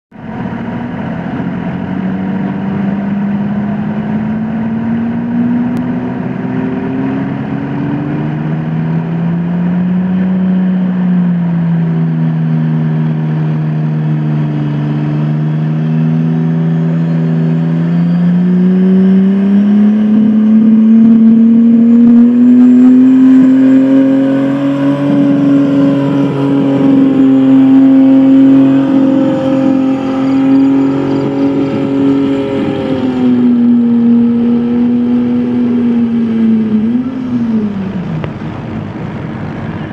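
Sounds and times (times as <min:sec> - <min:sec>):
truck engine running under load: 0:00.1 - 0:39.9.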